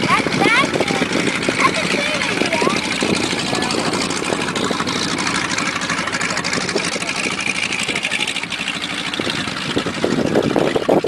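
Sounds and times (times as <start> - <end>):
distant aircraft engines droning: 0.0 - 11.0.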